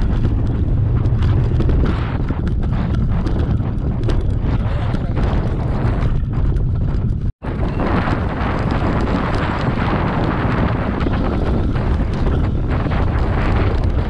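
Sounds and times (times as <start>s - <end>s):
bike tyre rumbling over gravel: 0.0s - 14.0s
wind buffeting microphone: 0.0s - 14.0s.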